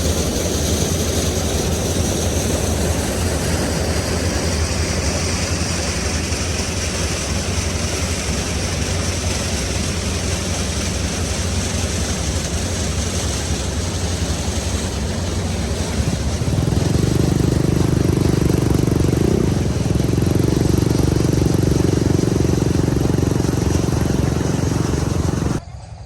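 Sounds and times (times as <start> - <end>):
diesel engine revving up: 0.0 - 25.8.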